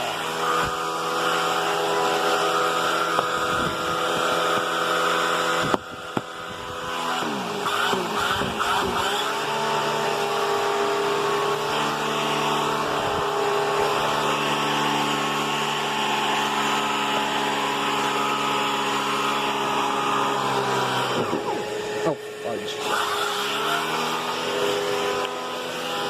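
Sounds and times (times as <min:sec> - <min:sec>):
vacuum cleaner motor whining: 0:00.0 - 0:26.0.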